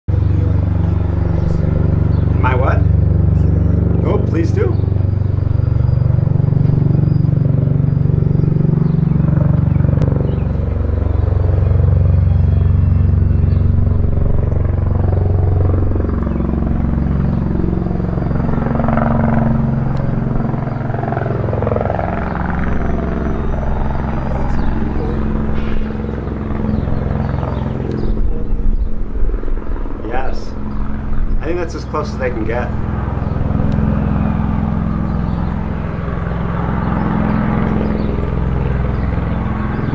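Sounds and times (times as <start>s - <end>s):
tiltrotor aircraft droning: 0.0s - 39.9s.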